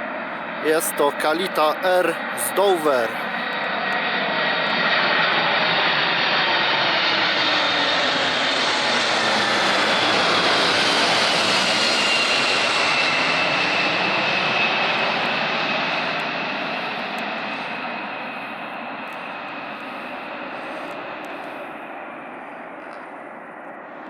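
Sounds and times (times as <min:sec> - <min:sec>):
jet engines with high whine: 0:00.0 - 0:24.0.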